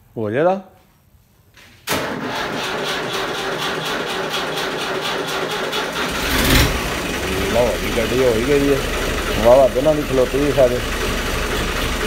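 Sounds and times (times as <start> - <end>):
diesel engine cranking on starter: 1.9 - 12.0
diesel engine running: 2.0 - 12.0.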